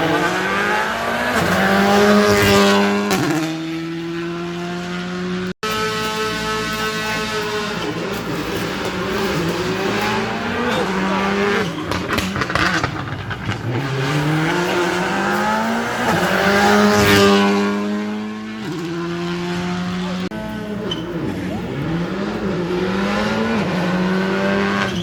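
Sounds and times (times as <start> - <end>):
rally car engine at full throttle: 0.0 - 25.0.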